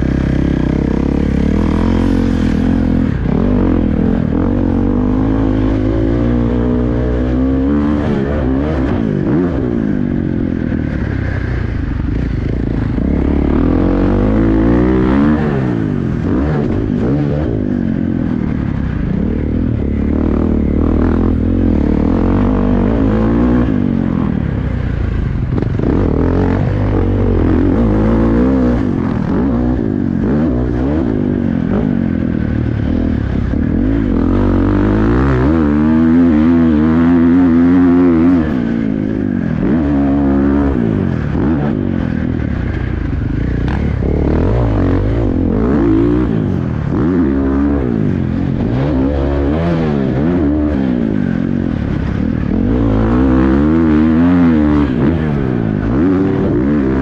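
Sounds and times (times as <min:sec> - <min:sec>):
motocross engine revving: 0:00.0 - 0:24.5, 0:25.2 - 0:57.0
steady low rumble: 0:00.0 - 0:57.0.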